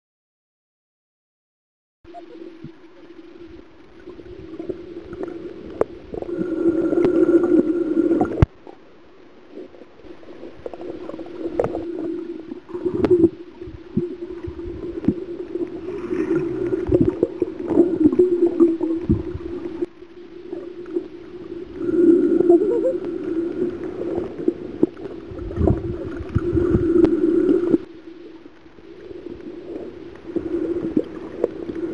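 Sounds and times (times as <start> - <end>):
muffled underwater hum: 2.1 - 31.9.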